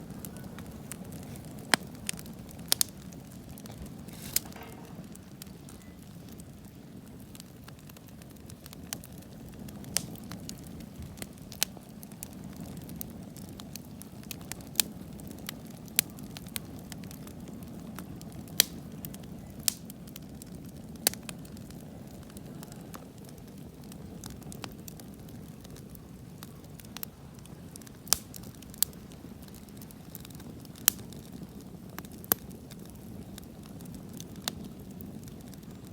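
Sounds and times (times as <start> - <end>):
bonfire flame rushing: 0.0 - 35.9
burning wood crackling: 0.0 - 35.9.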